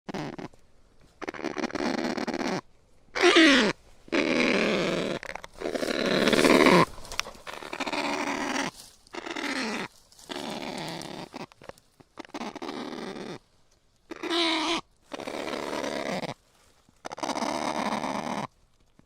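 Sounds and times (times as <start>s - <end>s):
parrot hoarse calls: 0.1s - 0.6s, 1.2s - 2.6s, 3.2s - 13.4s, 14.1s - 16.4s, 17.0s - 18.5s.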